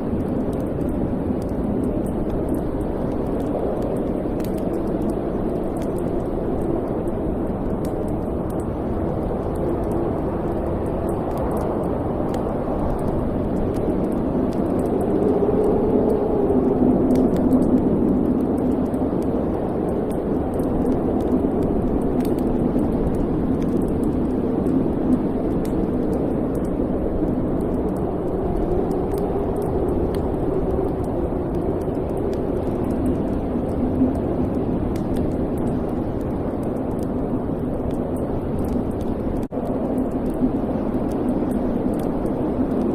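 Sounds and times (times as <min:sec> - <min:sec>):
faint fire crackles: 0:00.0 - 0:42.9.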